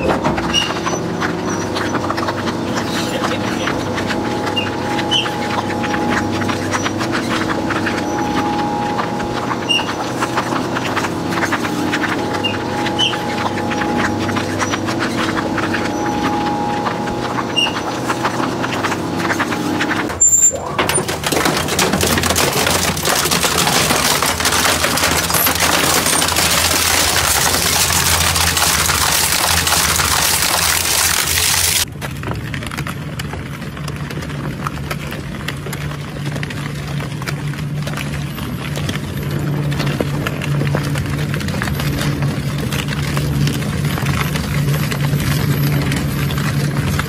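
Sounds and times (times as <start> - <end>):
industrial shredder grinding: 0.0 - 47.0.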